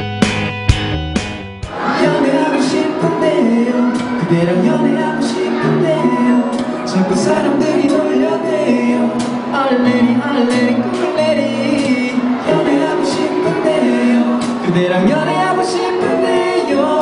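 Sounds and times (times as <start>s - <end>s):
drums: 0.0s - 8.2s, 9.1s - 15.3s
bass guitar: 0.0s - 16.2s
acoustic guitars: 0.0s - 17.0s
man singing into microphone: 1.8s - 17.0s.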